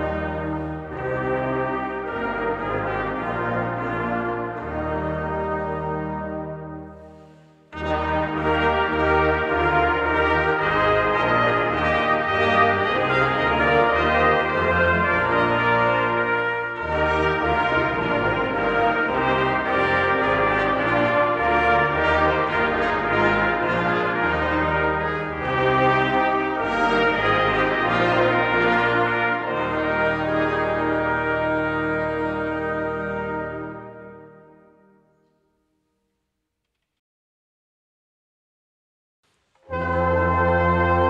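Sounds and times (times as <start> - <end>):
brass choir playing chords: 0.0 - 35.4, 39.6 - 41.0.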